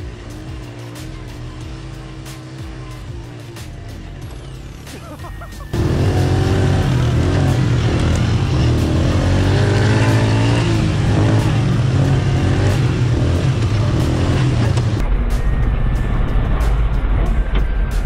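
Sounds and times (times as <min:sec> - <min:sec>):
atv engine droning: 0:00.0 - 0:15.1.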